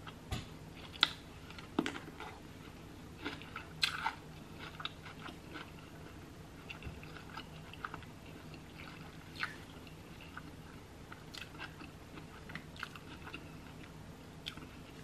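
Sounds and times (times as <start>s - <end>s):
person chewing food: 0.8s - 15.0s.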